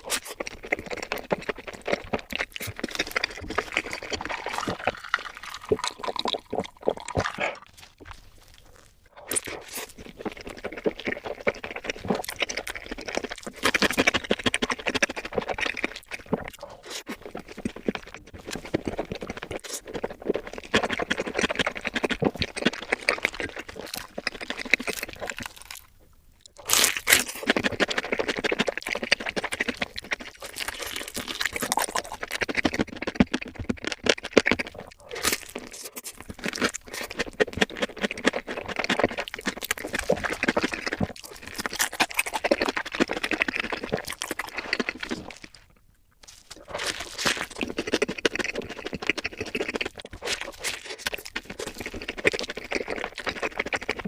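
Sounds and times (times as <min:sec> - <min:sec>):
crunching of crispy fried food: 0:00.0 - 0:54.0.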